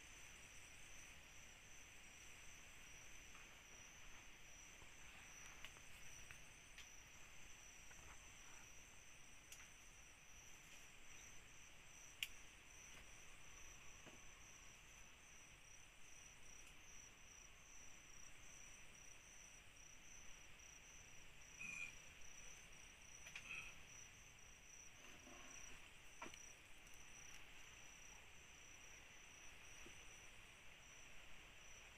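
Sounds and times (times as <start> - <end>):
soft insect hiss: 0.0 - 31.9
insects trilling: 0.1 - 31.9.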